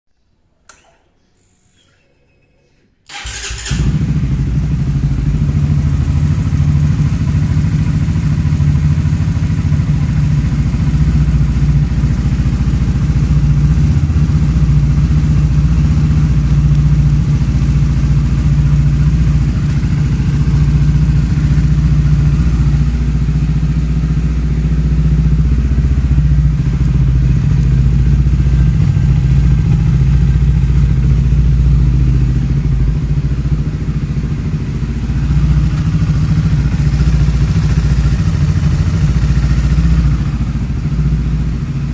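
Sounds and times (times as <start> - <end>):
motorcycle engine starting and idling: 3.1 - 41.9
ticking inside engine: 3.1 - 41.9.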